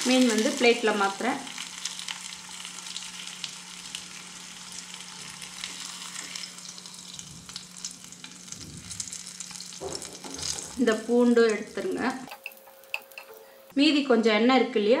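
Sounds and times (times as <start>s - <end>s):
oil sizzling and crackling: 0.0s - 13.7s.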